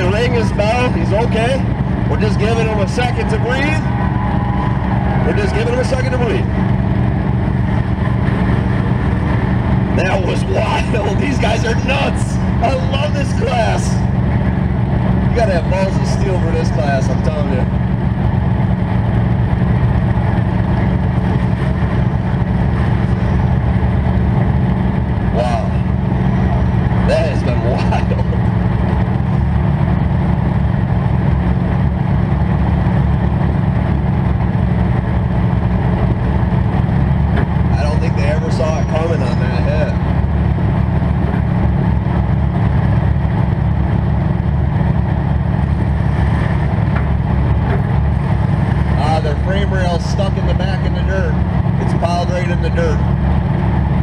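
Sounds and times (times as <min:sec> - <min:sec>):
car engine idling loudly: 0:00.0 - 0:54.0.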